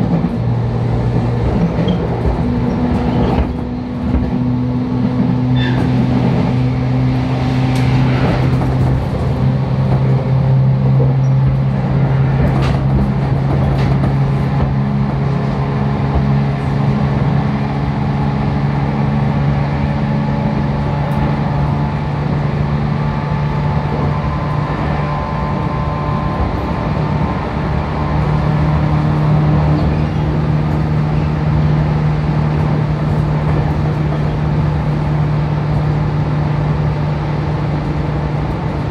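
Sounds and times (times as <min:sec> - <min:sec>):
wheel-on-rail rumble: 0:00.0 - 0:38.9.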